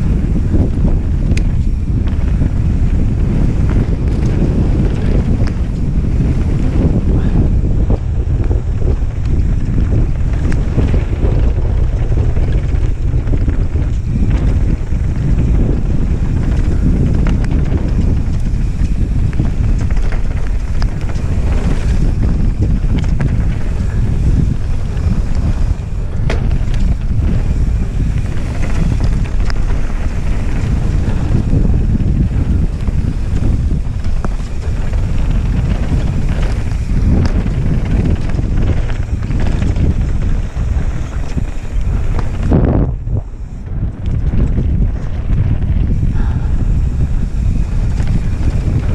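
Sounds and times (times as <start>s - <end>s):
bike knocks and rattles: 0.0s - 48.9s
wind buffeting microphone: 0.0s - 48.9s.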